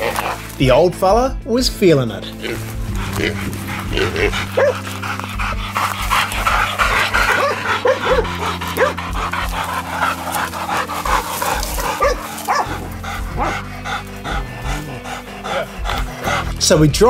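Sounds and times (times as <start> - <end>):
dogs panting: 0.0 - 0.8, 1.9 - 17.0.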